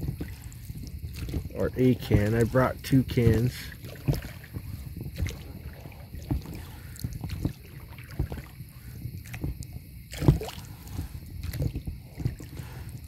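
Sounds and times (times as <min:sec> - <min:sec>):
paddle strokes in water: 0:00.0 - 0:13.0.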